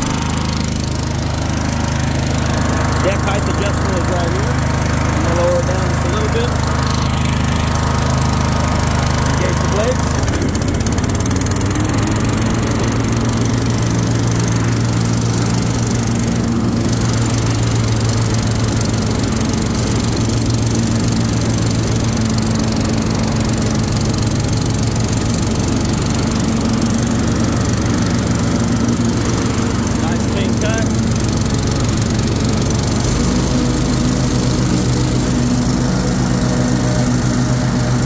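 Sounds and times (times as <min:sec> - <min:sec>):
riding mower engine running: 0:00.0 - 0:38.0.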